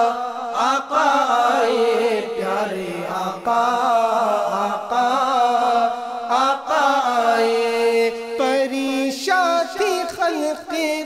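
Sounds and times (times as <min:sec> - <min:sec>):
man singing melodic passage: 0:00.0 - 0:11.0.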